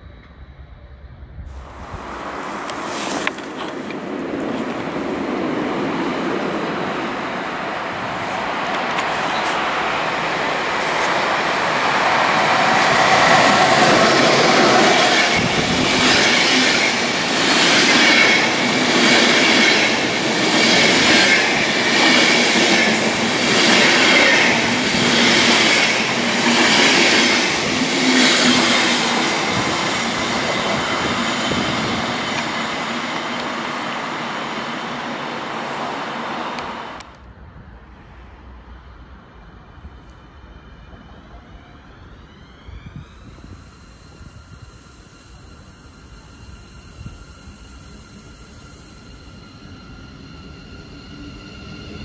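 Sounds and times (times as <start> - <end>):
train wheels on rails passing: 1.5 - 52.0.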